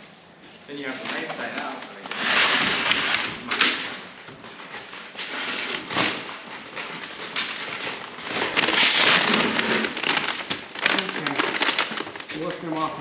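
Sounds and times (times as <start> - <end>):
scrapes: 0.8 - 12.5
rustling of potato bags: 0.8 - 13.0.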